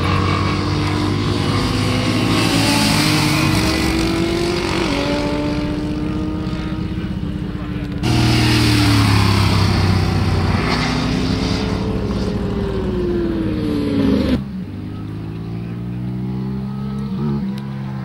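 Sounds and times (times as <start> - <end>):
motorcycle engines at high revs: 0.0 - 18.0.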